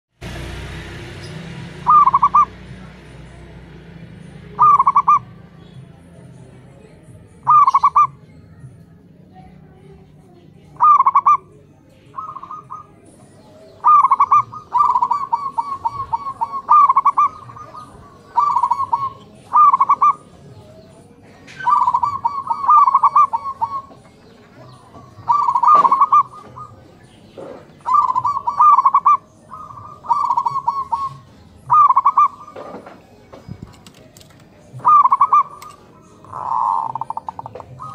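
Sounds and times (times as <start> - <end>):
doves cooing: 0.2 - 8.4, 10.0 - 37.9.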